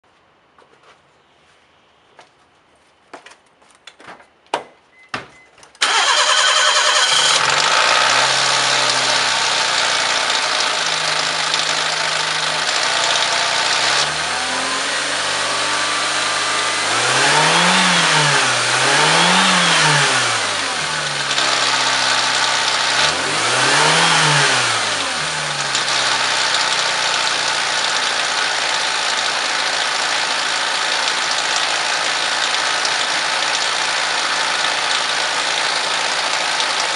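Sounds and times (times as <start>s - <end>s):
engine revving: 5.8s - 36.8s
car engine starting and idling: 5.8s - 36.9s.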